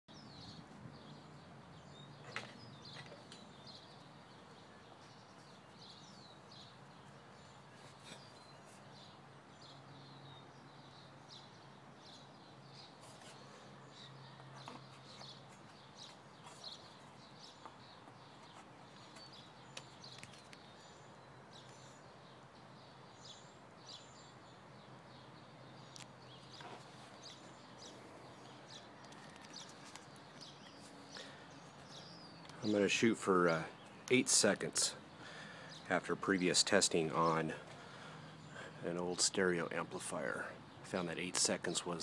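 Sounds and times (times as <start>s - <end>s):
faint birds chirping: 0.1s - 42.0s.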